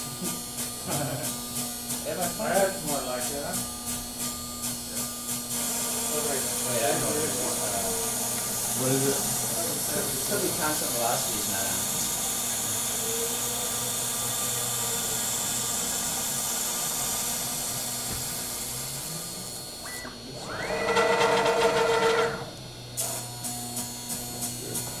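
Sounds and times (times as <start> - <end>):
router spindle hissing: 0.1 - 25.0
stepper motors whining: 0.1 - 25.0.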